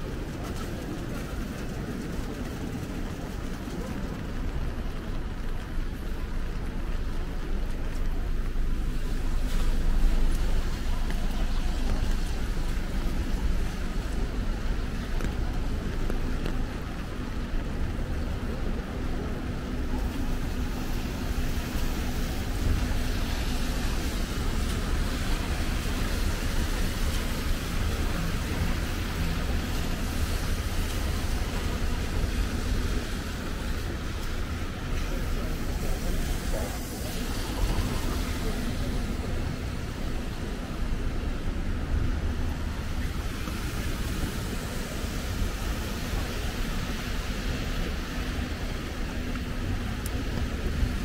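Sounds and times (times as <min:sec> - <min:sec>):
low traffic rumble: 0:00.0 - 0:51.0
tyres hissing on wet road: 0:00.0 - 0:51.0.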